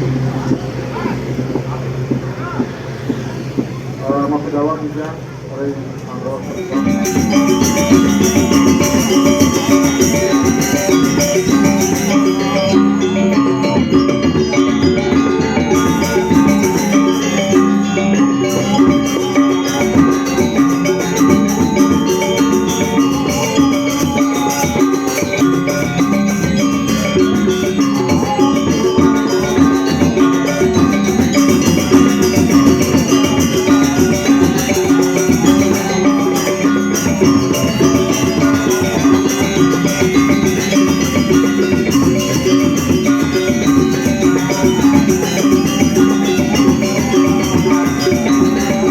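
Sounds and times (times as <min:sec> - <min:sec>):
gamelan playing: 0:06.3 - 0:48.9.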